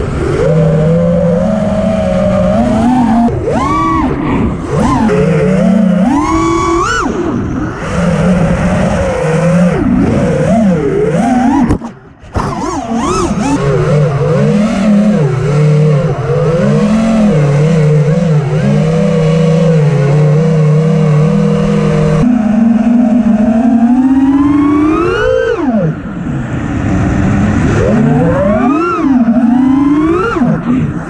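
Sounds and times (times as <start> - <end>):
drone motors and propellers whining: 0.0 - 31.0.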